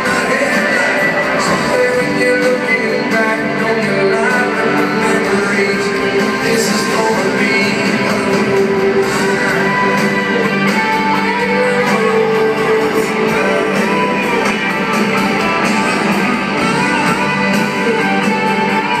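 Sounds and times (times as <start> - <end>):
guitar strumming: 0.0 - 19.0
live country band: 0.0 - 19.0.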